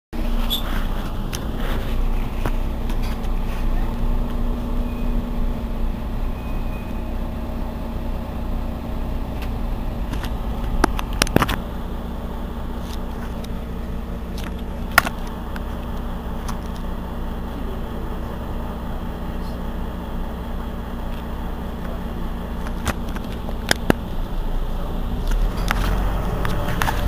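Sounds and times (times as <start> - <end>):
bus engine idling: 0.2 - 27.0.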